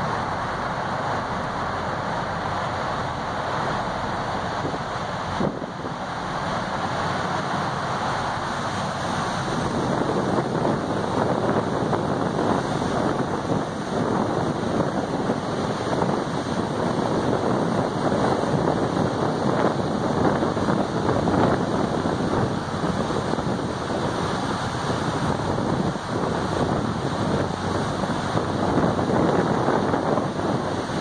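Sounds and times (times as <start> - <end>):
churning wake and spray: 0.0 - 31.0
wind buffeting microphone: 0.0 - 31.0.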